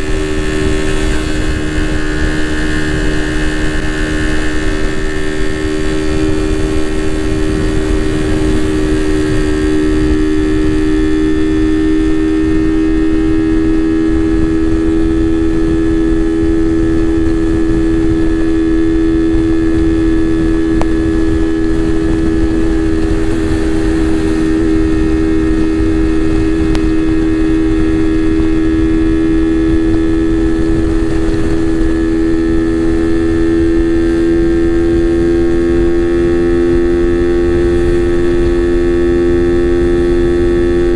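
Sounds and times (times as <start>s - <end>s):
low rushing noise: 0.0s - 40.9s
motorcycle engine running: 0.0s - 40.9s.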